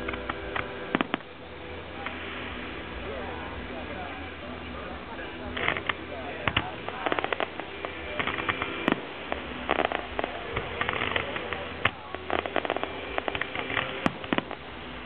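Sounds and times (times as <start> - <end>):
fireworks crackling pops: 0.0 - 15.0
sharp firework cracks: 0.0 - 15.0.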